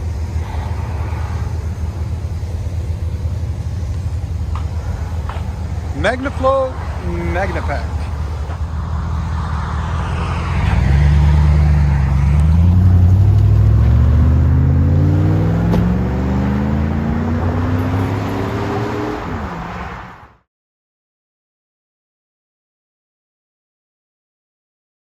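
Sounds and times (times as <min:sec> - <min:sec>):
engine accelerating with deep exhaust: 0:00.0 - 0:20.2.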